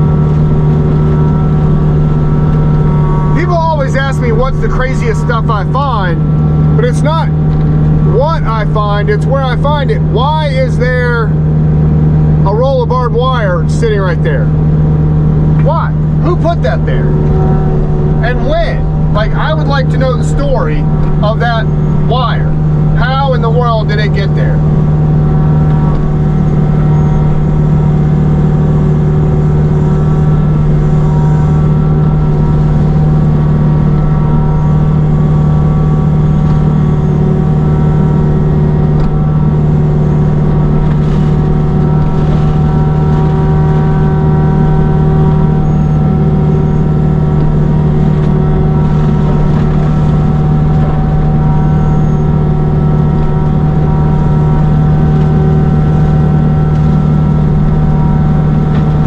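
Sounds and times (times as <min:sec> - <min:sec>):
mulcher engine droning: 0:00.0 - 0:59.0.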